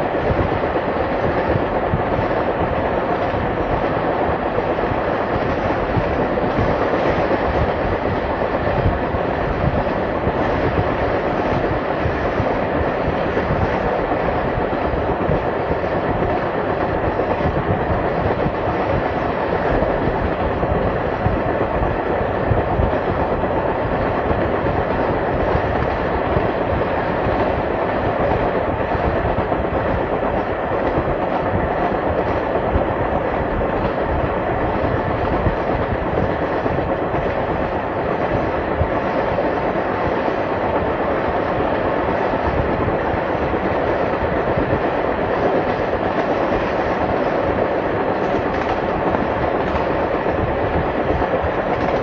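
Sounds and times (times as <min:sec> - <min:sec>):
train wheels clattering on track: 0:00.0 - 0:52.0.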